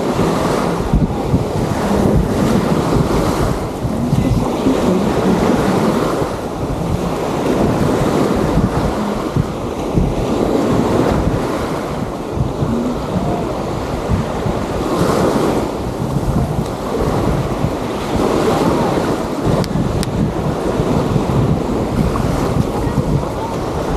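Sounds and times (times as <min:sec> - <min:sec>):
waves washing onto beach: 0:00.0 - 0:23.9
wind buffeting microphone: 0:00.0 - 0:23.9.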